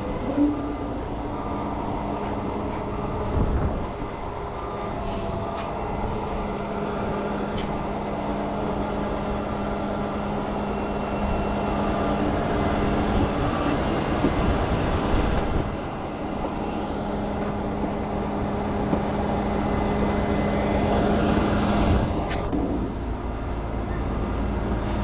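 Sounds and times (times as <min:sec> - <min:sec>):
truck engine droning: 0:00.0 - 0:25.0.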